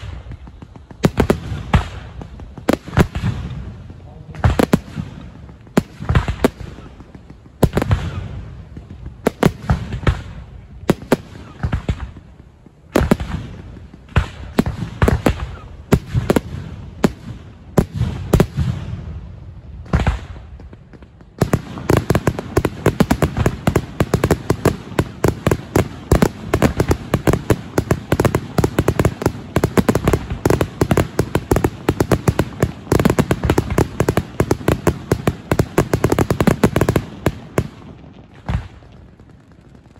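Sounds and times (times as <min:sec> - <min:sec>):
fireworks banging: 0:00.0 - 0:39.9.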